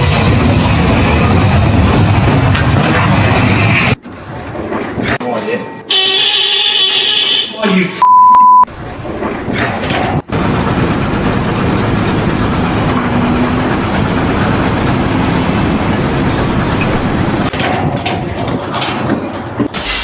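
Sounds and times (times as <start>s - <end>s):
steady mechanical rumbling: 0.0s - 5.2s, 8.6s - 20.0s.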